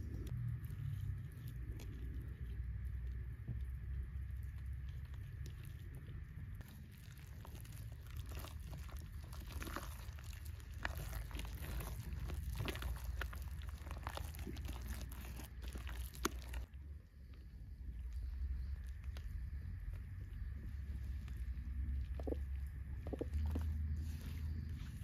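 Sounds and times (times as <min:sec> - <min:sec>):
hand squelching wet mixture: 0:00.0 - 0:25.0
steady low rumble: 0:00.0 - 0:25.0.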